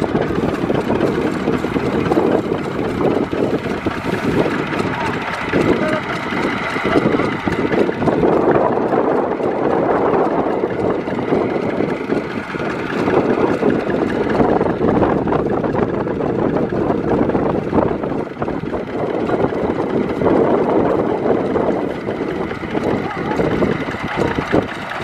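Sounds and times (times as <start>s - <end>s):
tractor diesel engine running: 0.0s - 25.0s
wind buffeting microphone: 0.0s - 25.0s.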